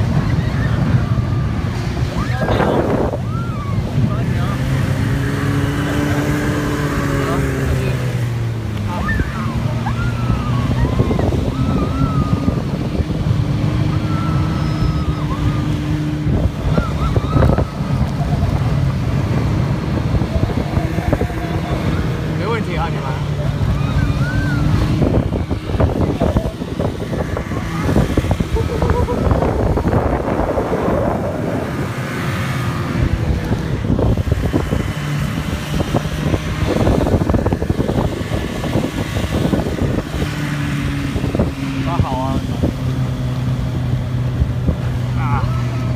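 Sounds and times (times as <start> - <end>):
snowmobile engine running: 0.0 - 45.9
wind buffeting microphone: 0.0 - 45.9.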